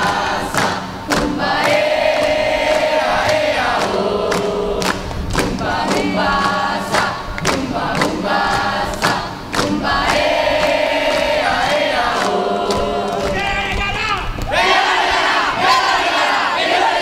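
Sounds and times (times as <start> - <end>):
mixed choir singing: 0.0 - 13.4, 14.5 - 17.0
hand claps: 0.0 - 14.6.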